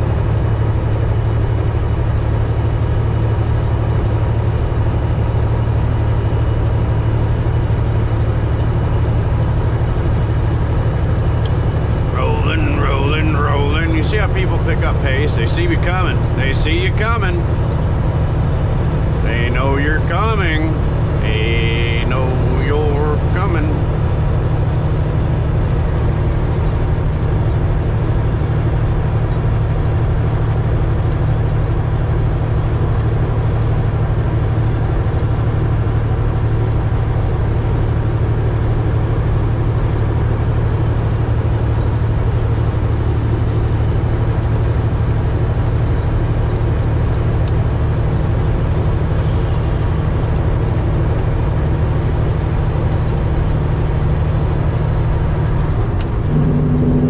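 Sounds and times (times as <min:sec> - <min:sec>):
diesel engine drone: 0:00.0 - 0:57.0
road and tyre noise: 0:00.0 - 0:57.0.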